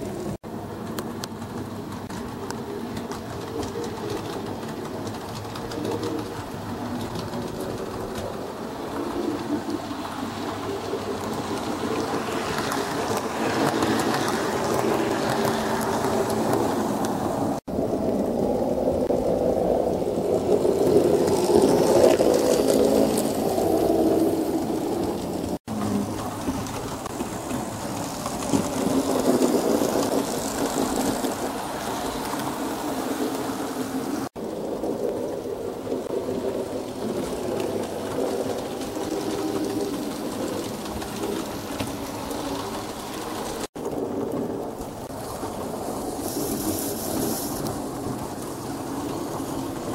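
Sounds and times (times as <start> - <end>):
model train rumbling on track: 0.0 - 49.9.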